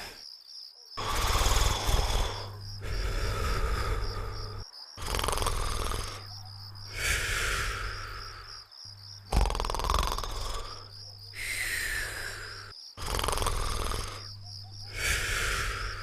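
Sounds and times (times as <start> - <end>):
cartoon snoring: 1.0 - 8.5, 9.2 - 16.0.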